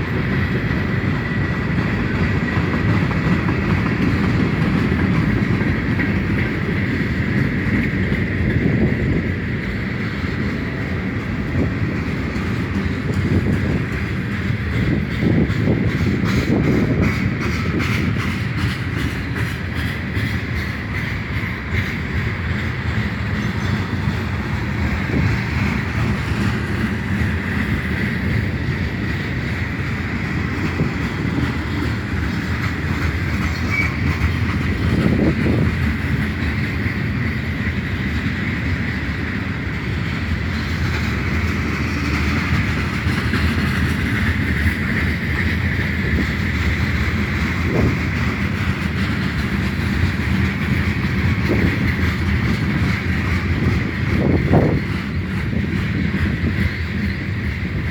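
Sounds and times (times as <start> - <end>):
freight train wheels on rails: 0.0 - 57.9.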